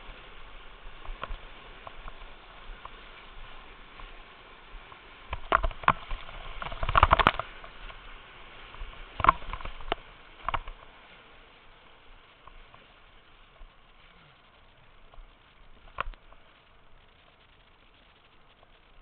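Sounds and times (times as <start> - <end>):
water splashing against kayak: 0.0 - 19.0.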